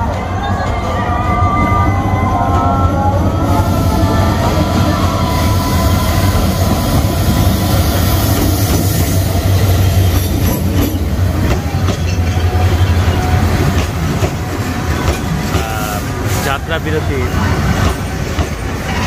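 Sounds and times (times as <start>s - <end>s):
diesel locomotive engine rumble: 0.0s - 19.0s
train wheel clatter: 0.0s - 19.0s.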